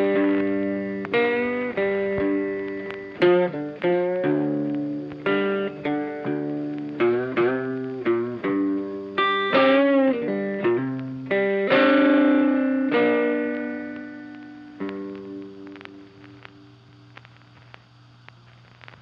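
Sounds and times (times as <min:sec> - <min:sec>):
funky electric guitar: 0:00.0 - 0:16.7.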